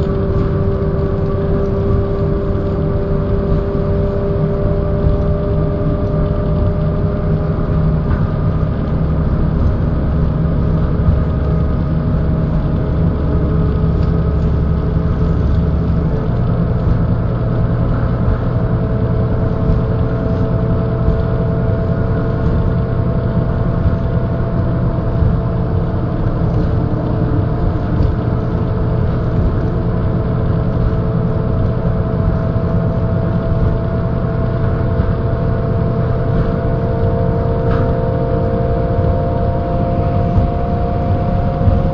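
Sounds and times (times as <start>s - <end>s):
axle gears whining: 0.0s - 41.9s
bus diesel engine running: 0.0s - 41.9s.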